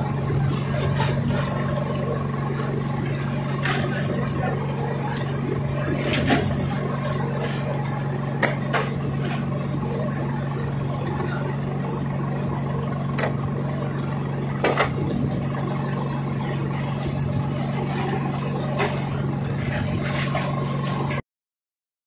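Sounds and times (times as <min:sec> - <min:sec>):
boat engine humming: 0:00.0 - 0:21.2.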